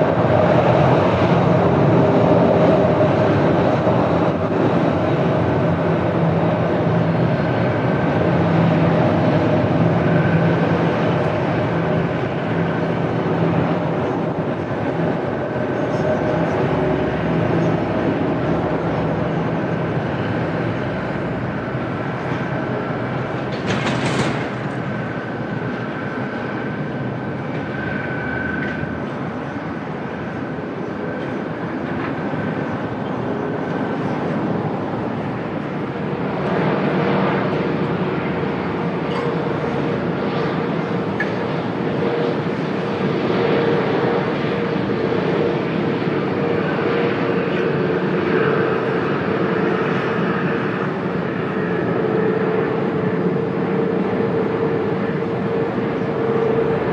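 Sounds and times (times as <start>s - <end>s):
gusty wind noise: 0.0s - 56.9s
jet engines rumbling and whining: 0.0s - 56.9s.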